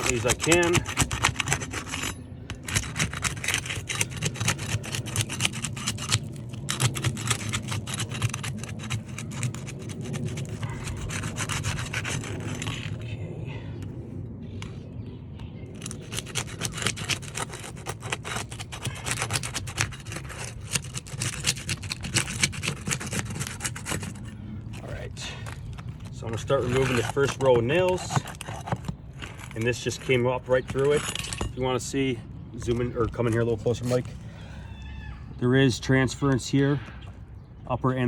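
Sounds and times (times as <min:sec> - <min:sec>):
pry bar tearing roof shingles: 0:00.0 - 0:13.1, 0:15.7 - 0:34.2.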